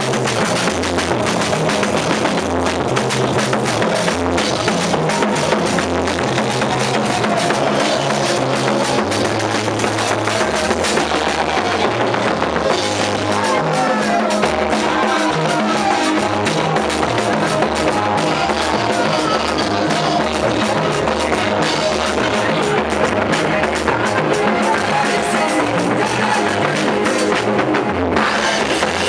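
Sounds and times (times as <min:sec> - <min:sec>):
live band playing dance beat: 0:00.0 - 0:29.0.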